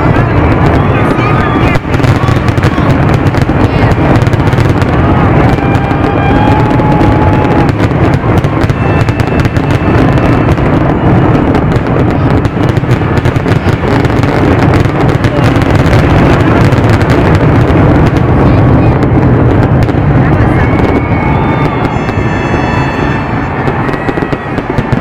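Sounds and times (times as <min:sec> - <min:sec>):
firework whistles: 0:00.0 - 0:17.1, 0:19.8 - 0:25.0
fireworks crackles and bangs: 0:00.0 - 0:25.0.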